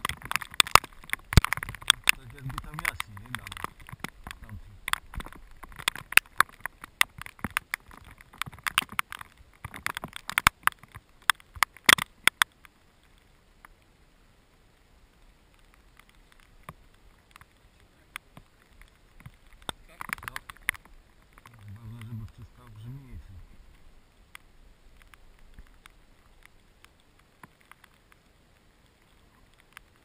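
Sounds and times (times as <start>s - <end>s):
rustling at camera: 0.0s - 12.6s, 15.6s - 30.0s.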